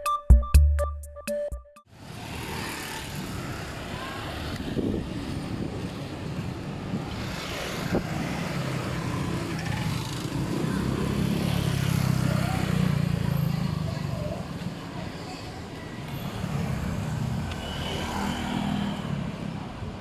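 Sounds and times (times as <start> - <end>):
road traffic: 1.8 - 20.0.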